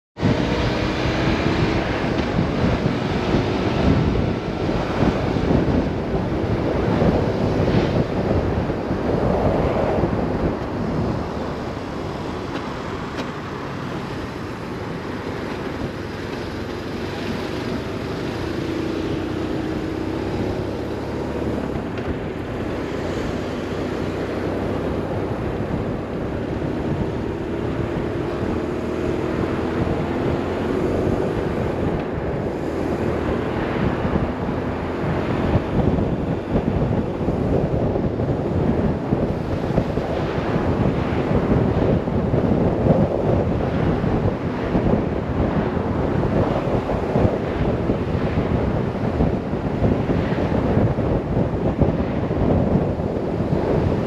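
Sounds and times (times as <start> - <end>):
motorcycle engine running: 0.2 - 54.0
wind noise on microphone: 0.2 - 54.0.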